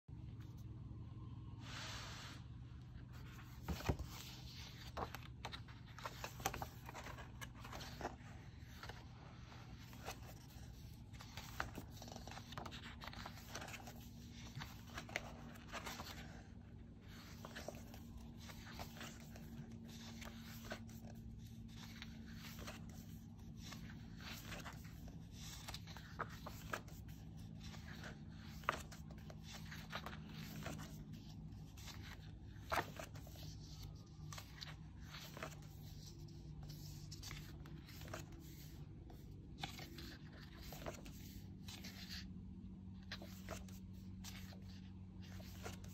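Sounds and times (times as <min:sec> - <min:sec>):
book pages rustling: 0:01.6 - 0:45.9.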